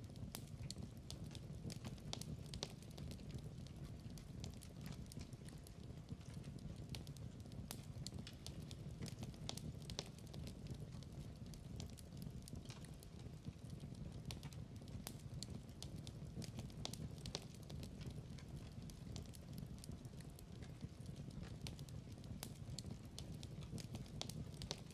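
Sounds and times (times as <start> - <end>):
wood fire crackling: 0.0 - 24.9
sharp pops and snaps: 0.1 - 24.9.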